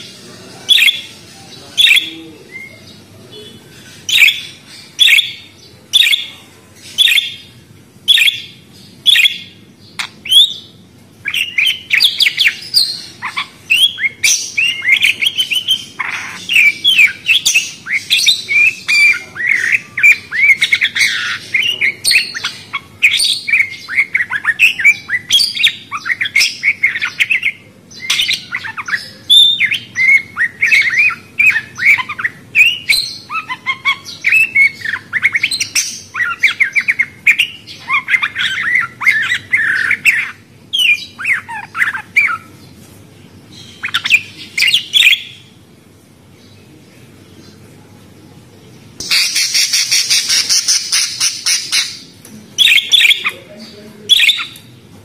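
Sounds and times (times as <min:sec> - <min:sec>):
parrots chirping and squawking: 0:00.0 - 0:45.7, 0:49.0 - 0:54.7.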